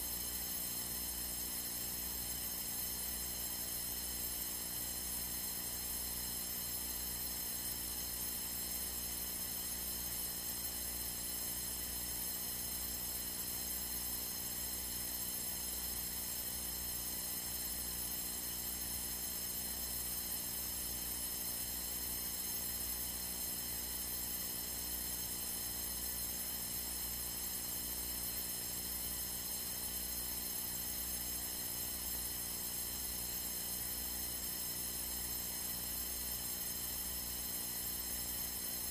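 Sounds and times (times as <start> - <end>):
electrical hum and hiss: 0.0 - 38.9.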